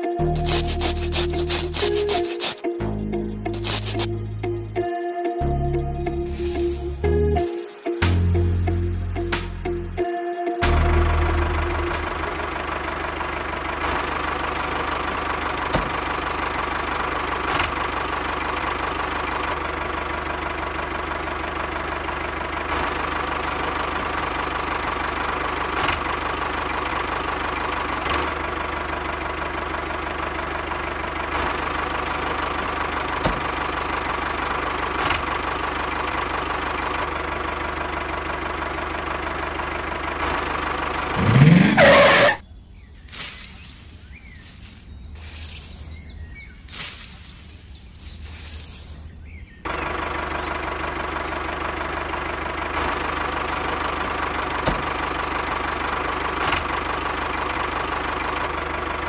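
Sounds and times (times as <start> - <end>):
model tractor engine drone: 0.0 - 4.8, 10.7 - 42.4, 43.2 - 59.0.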